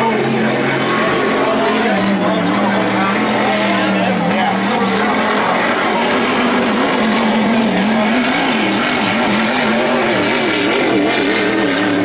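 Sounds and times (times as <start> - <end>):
racing boat engines running flat out: 0.0 - 12.0
steady rush of noise: 0.0 - 12.0.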